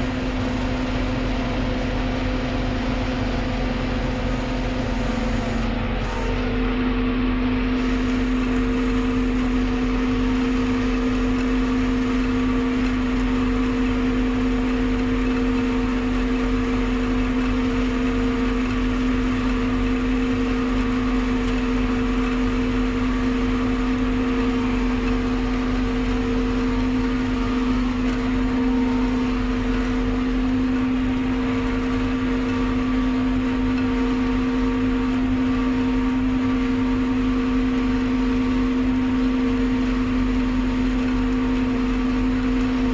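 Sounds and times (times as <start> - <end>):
harvester machine drone: 0.0 - 42.9.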